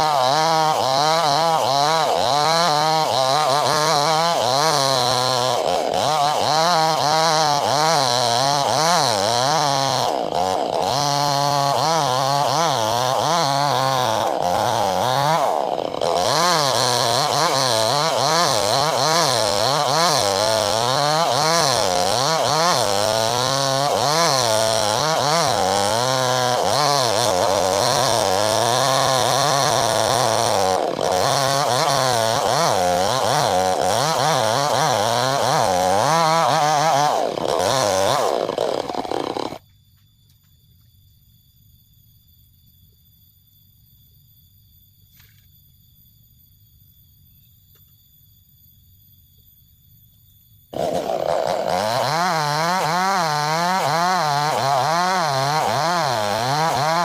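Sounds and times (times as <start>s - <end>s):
chainsaw cutting wood: 0.0s - 39.6s, 50.7s - 57.0s.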